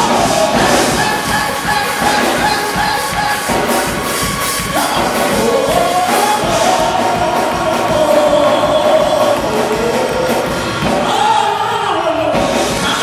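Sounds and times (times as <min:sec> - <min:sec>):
people clapping: 0:00.0 - 0:11.2
gospel band playing: 0:00.0 - 0:13.0
man singing into a microphone: 0:00.0 - 0:13.0.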